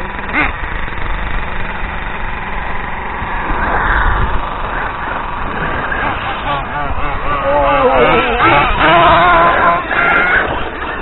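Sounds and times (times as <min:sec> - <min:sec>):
rc car motors droning: 0:00.0 - 0:11.0.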